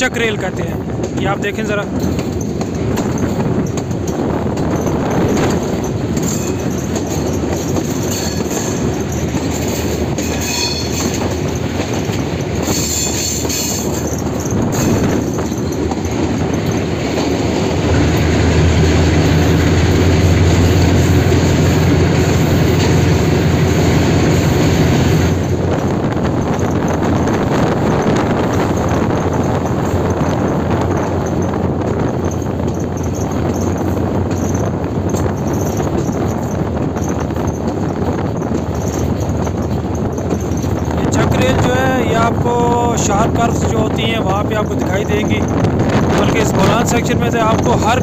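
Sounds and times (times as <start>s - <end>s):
locomotive engine drone: 0.0s - 48.0s
wheels rolling on rails: 0.0s - 48.0s
high wheel squeal: 1.7s - 48.0s.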